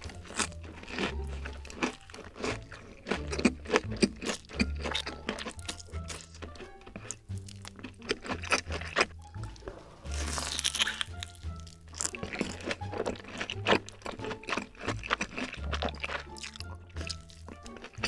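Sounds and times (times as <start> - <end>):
background music with bass line: 0.0 - 18.0
crunching fried snack: 0.0 - 18.0.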